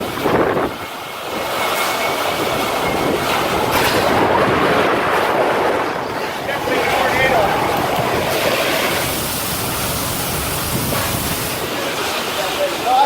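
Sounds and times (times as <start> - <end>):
tornado wind rushing: 0.0 - 13.0.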